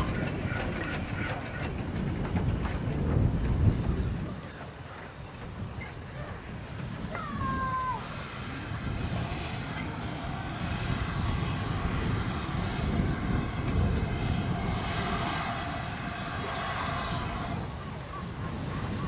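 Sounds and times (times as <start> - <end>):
steam locomotive rumbling: 0.0 - 19.0.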